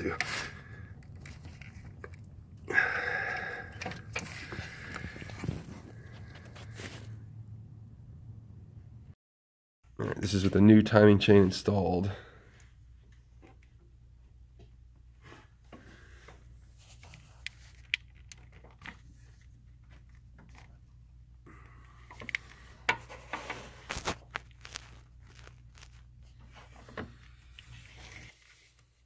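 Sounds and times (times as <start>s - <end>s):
low steady hum: 0.0s - 9.1s, 10.0s - 29.0s.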